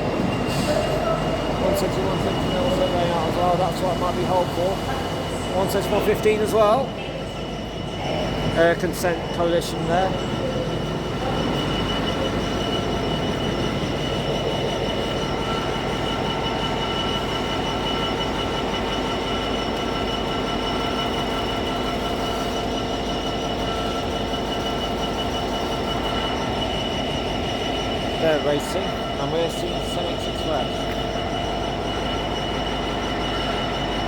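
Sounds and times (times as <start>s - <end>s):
freight train rumbling past: 0.0s - 34.0s
train wheels squealing: 0.0s - 34.0s.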